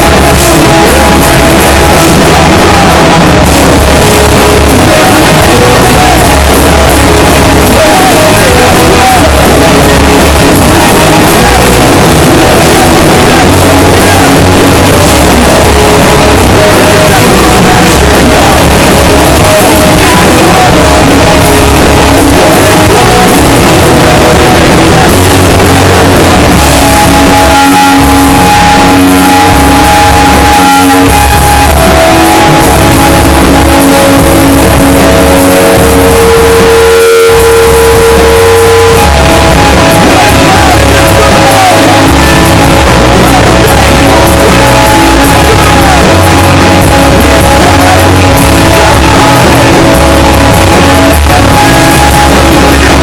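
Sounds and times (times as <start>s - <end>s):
electric guitar long notes: 0.0s - 53.0s
rock band playing loudly: 0.0s - 53.0s.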